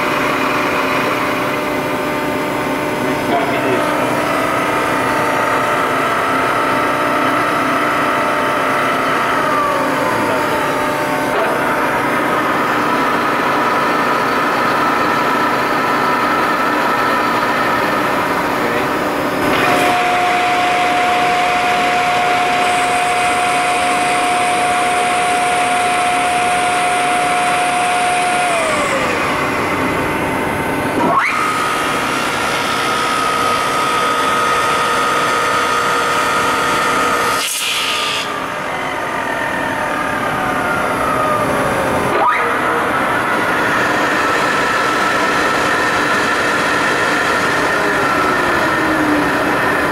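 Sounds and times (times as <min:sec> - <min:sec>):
machine whine: 0:00.0 - 0:49.9.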